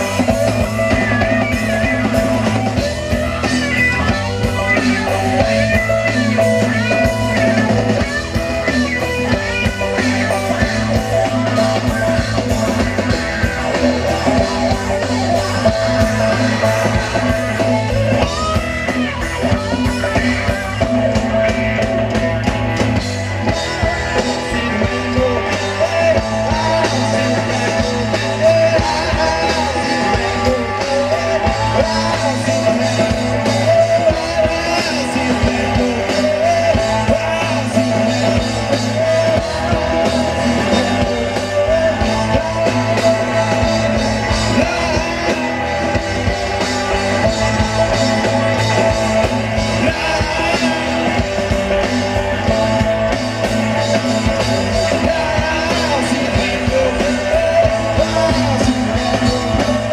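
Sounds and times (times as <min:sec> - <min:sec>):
bass guitar: 0:00.0 - 0:59.9
drum kit: 0:00.0 - 0:59.9
electric guitar: 0:00.0 - 0:59.9
person singing: 0:00.0 - 0:59.9.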